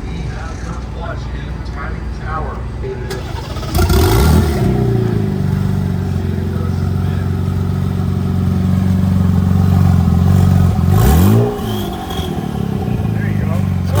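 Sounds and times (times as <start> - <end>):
car engine idling: 0.0 - 14.0
engine throttle blip: 0.0 - 14.0.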